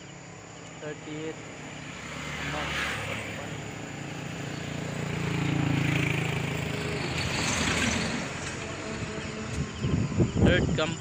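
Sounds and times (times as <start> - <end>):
small motorcycle engine passing: 1.2 - 10.4.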